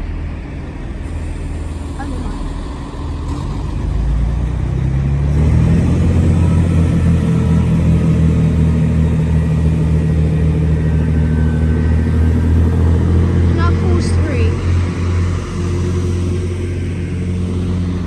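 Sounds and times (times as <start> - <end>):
train diesel engines throttling up: 0.0 - 18.0.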